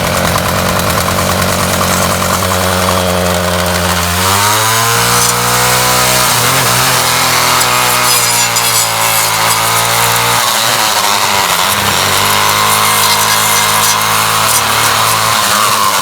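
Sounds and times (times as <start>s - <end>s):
string trimmer engine running: 0.0s - 16.0s.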